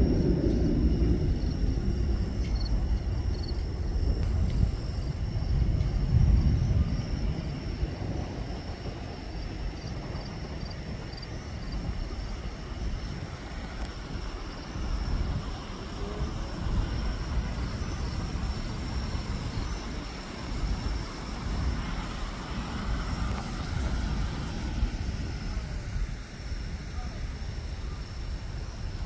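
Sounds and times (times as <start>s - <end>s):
outdoor background rumble: 0.0s - 29.0s.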